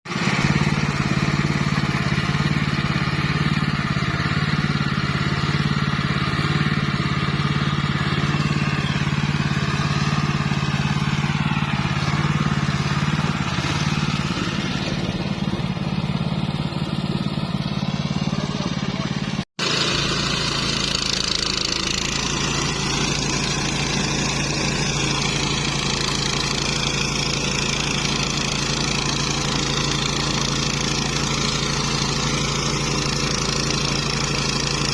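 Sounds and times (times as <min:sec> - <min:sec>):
flail mower engine running: 0:00.1 - 0:34.9.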